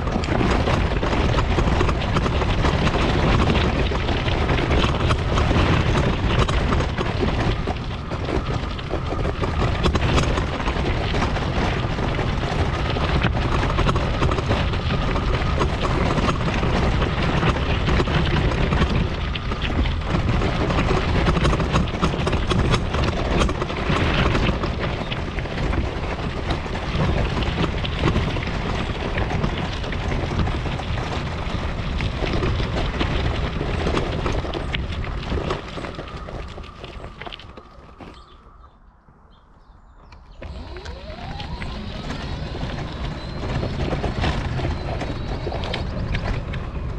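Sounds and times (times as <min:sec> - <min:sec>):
small rattles and knocks: 0:00.0 - 0:38.4
mobility scooter rumbling: 0:00.0 - 0:46.9
wind buffeting microphone: 0:00.0 - 0:46.9.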